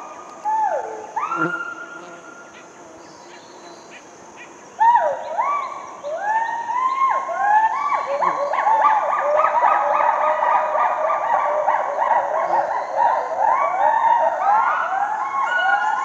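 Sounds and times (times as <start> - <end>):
high insect hum: 0.0 - 16.0.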